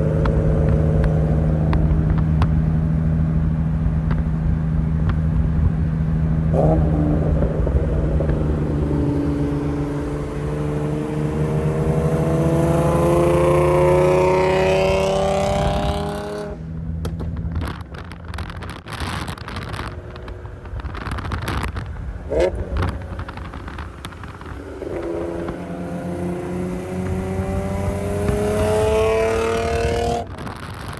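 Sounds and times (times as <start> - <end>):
car engine accelerating hard: 0.0 - 30.9
exhaust crackling and popping: 0.0 - 30.9.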